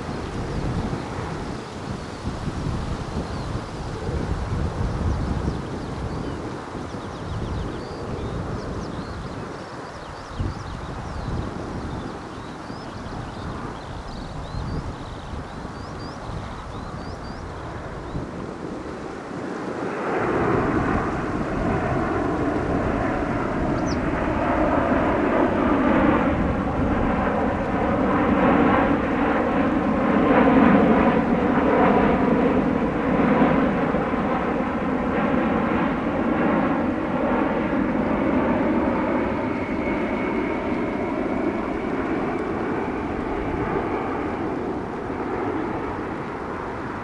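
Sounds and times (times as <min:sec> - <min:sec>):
jet airliner passing overhead: 0:00.0 - 0:47.0.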